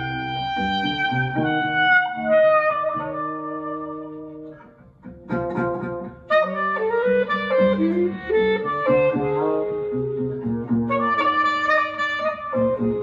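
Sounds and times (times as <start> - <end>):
jazz with trumpet and clarinet: 0.0 - 4.6, 5.9 - 13.0.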